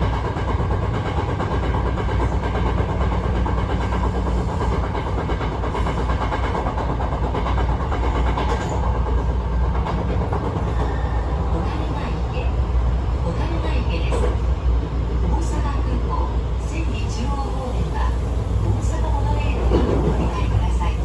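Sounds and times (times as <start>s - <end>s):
electric train clattering rattle: 0.0s - 21.0s.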